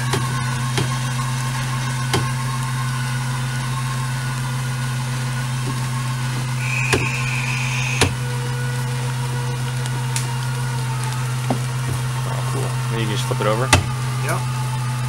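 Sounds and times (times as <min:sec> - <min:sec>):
thin high whine: 0:00.0 - 0:15.0
winch mechanical hum: 0:00.0 - 0:15.0.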